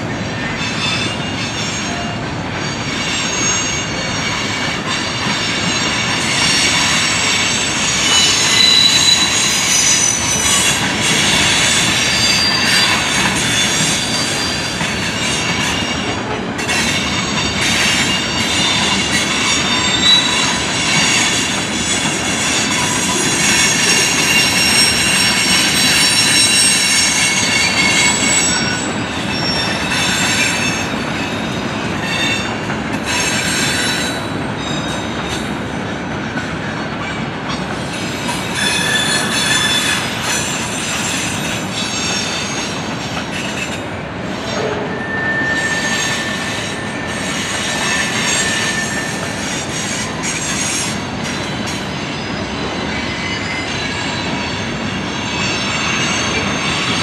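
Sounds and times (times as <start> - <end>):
train wheels rumbling on rail: 0.0 - 57.0
high thin wheel squeals: 0.4 - 35.5, 37.9 - 57.0.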